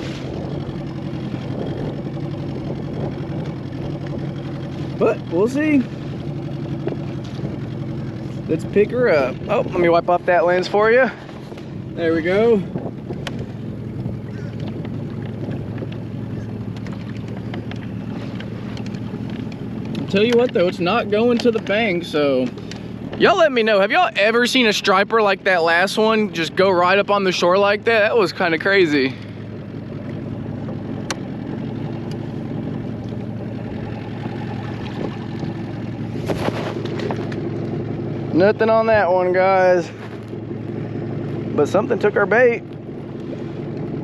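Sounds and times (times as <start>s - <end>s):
wind rumbling on microphone: 0.0s - 23.3s, 29.4s - 44.0s
boat motor running: 0.0s - 44.0s.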